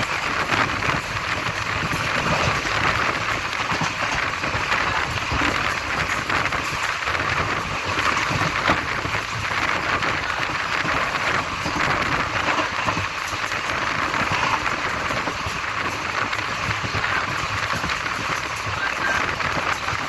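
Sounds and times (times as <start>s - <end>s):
train coach rattling: 0.0s - 20.0s.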